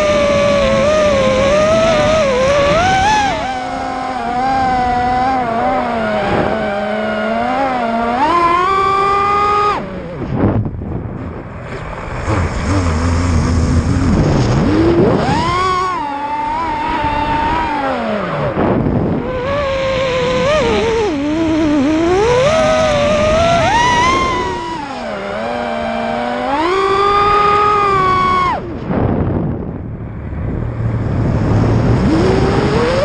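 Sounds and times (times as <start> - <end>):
quadcopter motors whining: 0.0 - 10.5, 12.3 - 29.2, 31.4 - 33.0.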